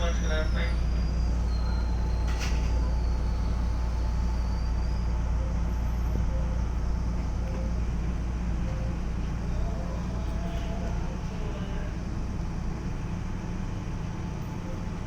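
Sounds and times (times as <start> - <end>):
low hum of train equipment: 0.0 - 15.0.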